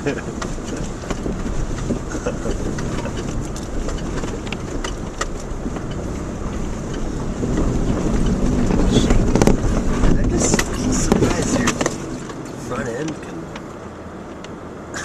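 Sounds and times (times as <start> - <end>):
knocks and rattles: 0.0 - 13.7
car rumbling on dirt road: 0.0 - 15.0.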